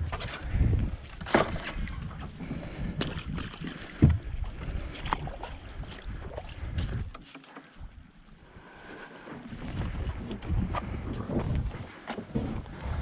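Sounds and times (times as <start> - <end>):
wind buffeting microphone: 0.0 - 7.2, 9.4 - 13.0.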